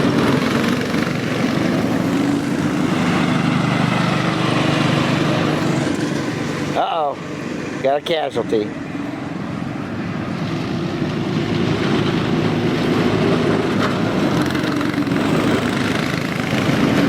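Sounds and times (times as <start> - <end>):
small engine running: 0.0 - 8.5, 10.2 - 17.0.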